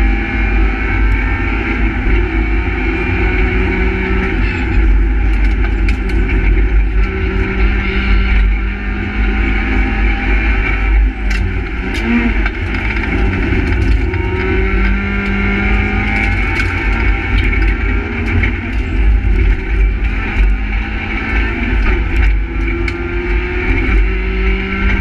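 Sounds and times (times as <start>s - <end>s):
rally car engine running hard: 0.0s - 25.0s
road and tyre rumble: 0.0s - 25.0s.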